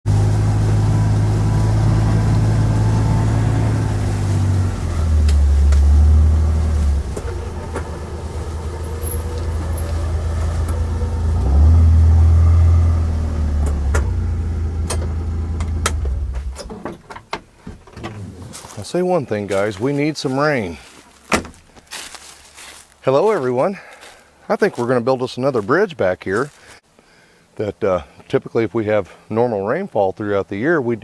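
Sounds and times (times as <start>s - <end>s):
engine humming: 0.0s - 24.9s.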